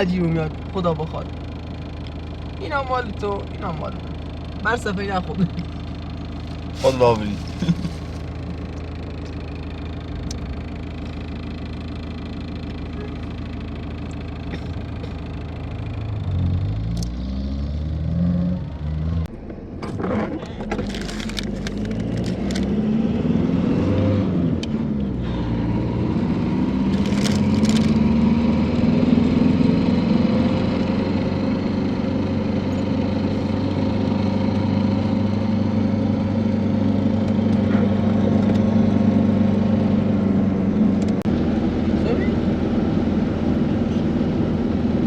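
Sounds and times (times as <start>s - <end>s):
truck engine revving: 4.6s - 11.2s, 14.4s - 45.0s.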